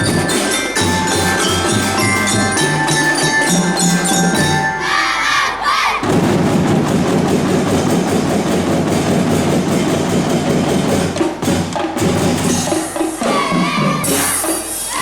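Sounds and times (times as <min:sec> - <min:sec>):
drum band playing fast: 0:00.0 - 0:05.2, 0:05.9 - 0:15.0.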